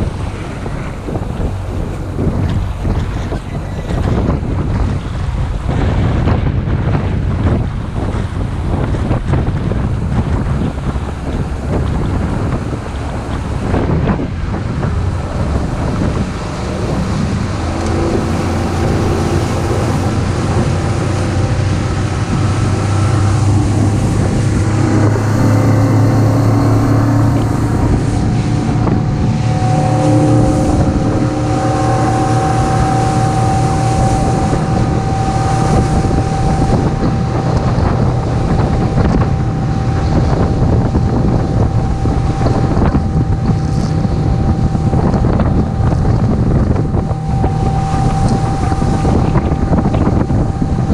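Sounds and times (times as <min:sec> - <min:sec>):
boat motor running: 0:00.0 - 0:50.9
wind buffeting microphone: 0:00.0 - 0:50.9.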